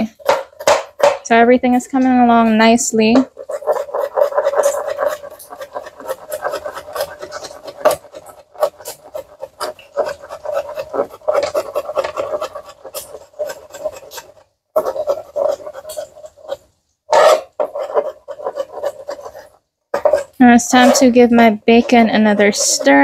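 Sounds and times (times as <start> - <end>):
knife chopping on plastic board: 0.0 - 1.4, 3.1 - 21.0.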